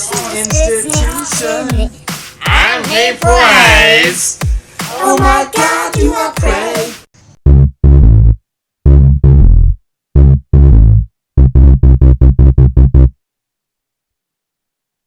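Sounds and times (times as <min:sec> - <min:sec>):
distorted synthesizer riff: 0:00.0 - 0:13.1.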